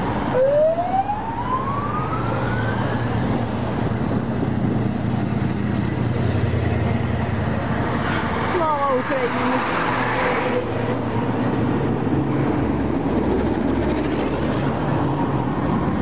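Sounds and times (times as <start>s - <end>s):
heavy vehicle engines rumbling: 0.0s - 16.0s.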